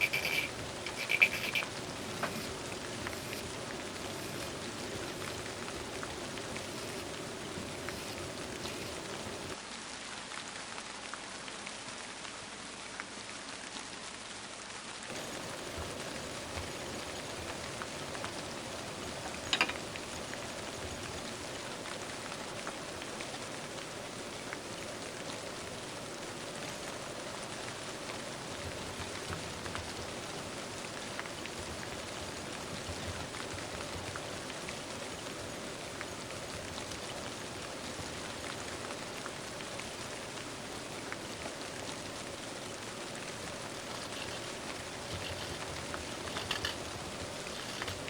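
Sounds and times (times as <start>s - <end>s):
steady rain patter: 0.0s - 9.6s, 15.1s - 48.0s.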